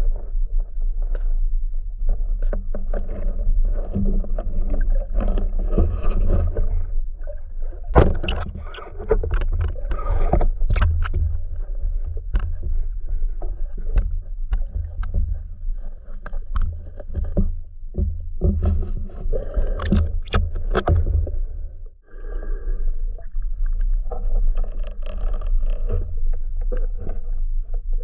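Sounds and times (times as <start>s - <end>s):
underwater rumble: 0.0s - 28.0s
underwater clicks and knocks: 2.0s - 21.9s, 23.2s - 28.0s.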